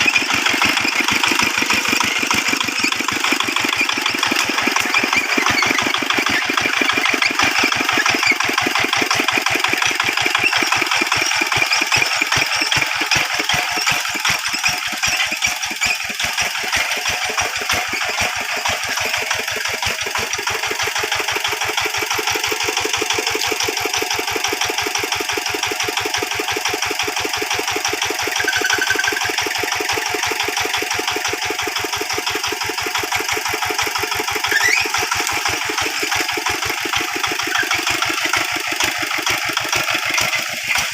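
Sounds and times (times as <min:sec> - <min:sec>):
hand tractor engine knocking: 0:00.0 - 0:40.9.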